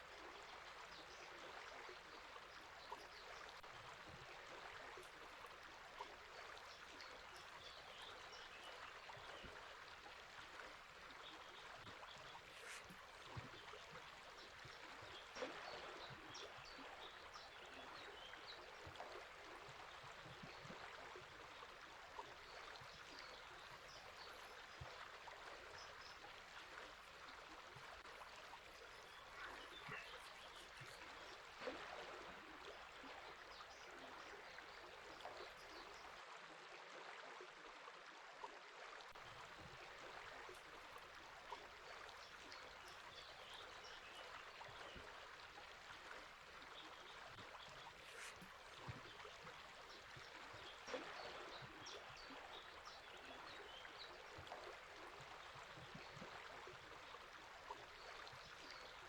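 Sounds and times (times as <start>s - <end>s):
river flowing: 0.0s - 36.2s, 39.2s - 59.0s.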